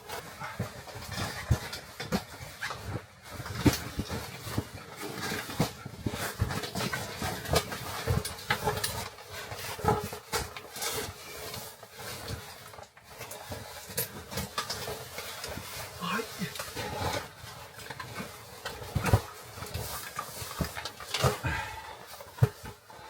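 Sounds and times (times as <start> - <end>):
bags rustling: 0.0 - 23.0.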